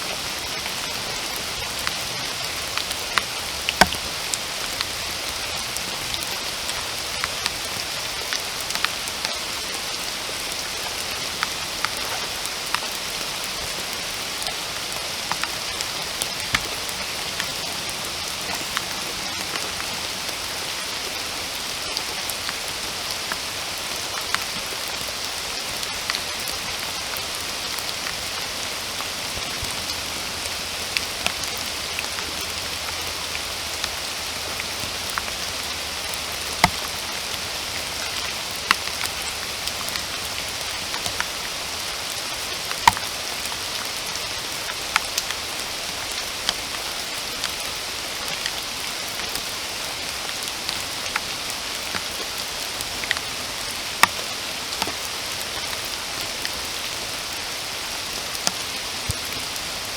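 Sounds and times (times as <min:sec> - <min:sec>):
steady rain hissing: 0:00.0 - 0:59.9
raindrops ticking: 0:00.1 - 0:59.9.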